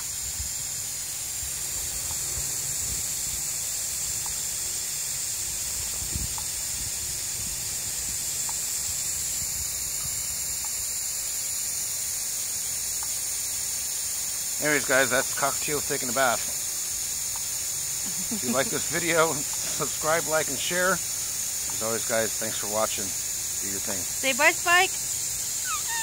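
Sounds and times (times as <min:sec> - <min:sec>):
water spray hissing on wire cage: 0:00.0 - 0:26.0.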